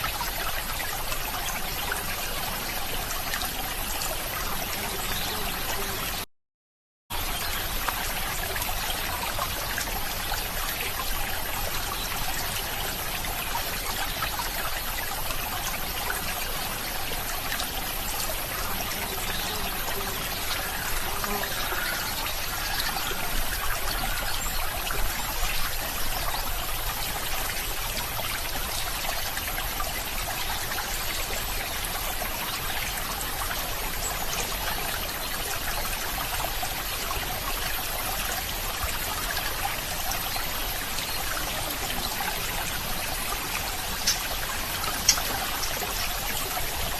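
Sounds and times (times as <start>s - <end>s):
stream trickling over stones: 0.0s - 6.3s, 7.1s - 46.9s.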